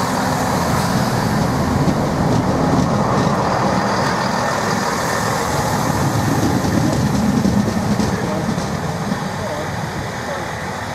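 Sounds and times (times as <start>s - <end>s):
diesel train engines: 0.0s - 10.9s
train wheel noise: 0.0s - 10.9s.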